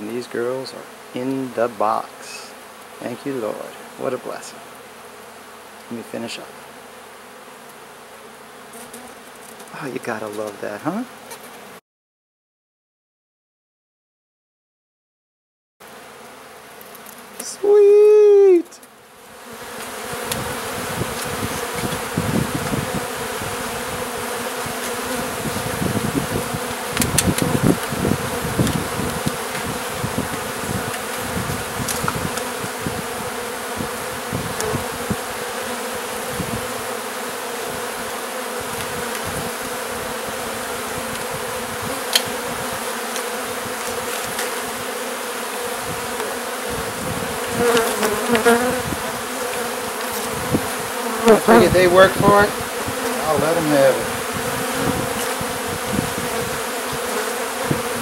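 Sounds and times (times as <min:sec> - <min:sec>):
bees buzzing: 0:00.0 - 0:11.8, 0:15.8 - 0:58.0.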